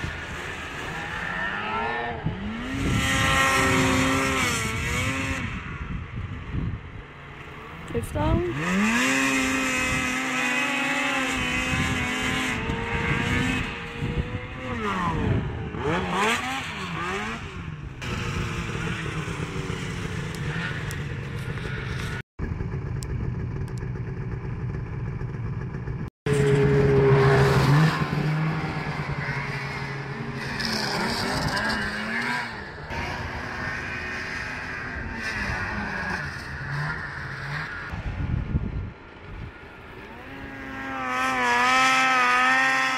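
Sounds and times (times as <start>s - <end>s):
snowmobile engines revving: 0.0s - 5.8s, 7.6s - 22.2s, 26.3s - 38.0s, 39.6s - 42.9s.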